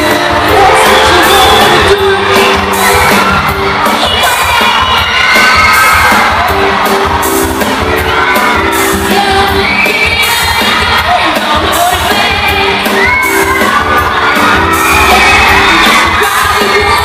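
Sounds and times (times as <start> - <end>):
person singing: 0.0 - 4.6, 7.6 - 17.0
live pop music: 0.0 - 17.0
children screaming and cheering: 0.1 - 17.0.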